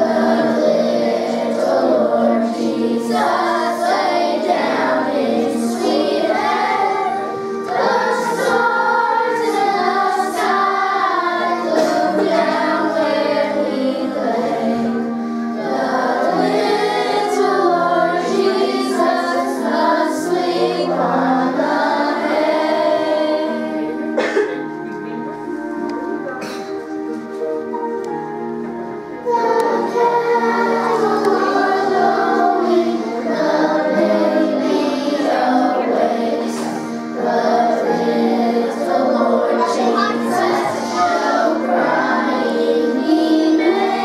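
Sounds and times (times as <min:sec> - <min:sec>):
children singing: 0:00.0 - 0:24.6, 0:29.2 - 0:44.0
instrumental accompaniment: 0:00.0 - 0:44.0.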